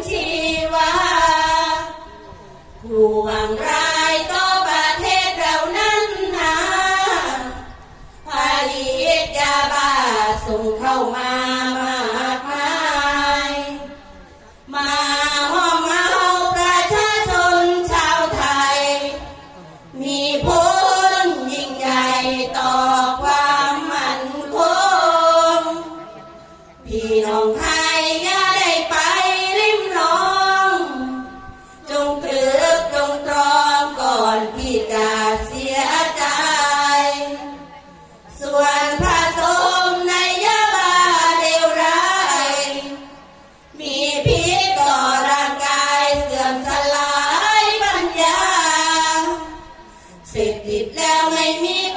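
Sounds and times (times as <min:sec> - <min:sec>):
women chanting in unison: 0:00.0 - 0:51.9.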